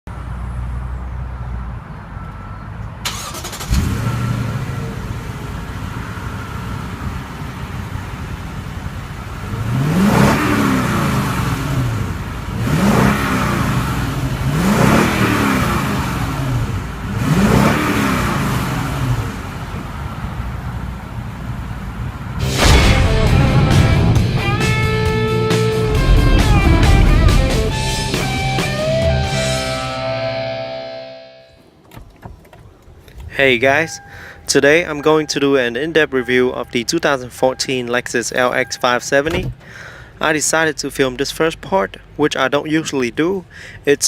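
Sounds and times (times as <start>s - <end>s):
car engine idling and revving: 0.1s - 30.6s, 31.6s - 44.0s.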